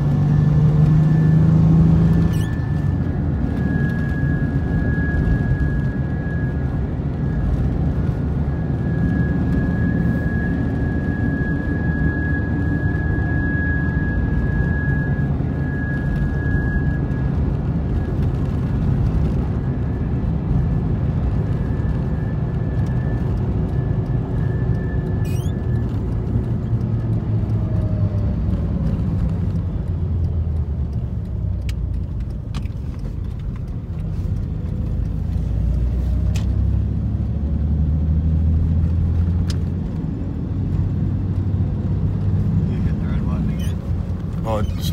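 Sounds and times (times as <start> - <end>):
pickup truck rumbling: 0.0 - 44.9.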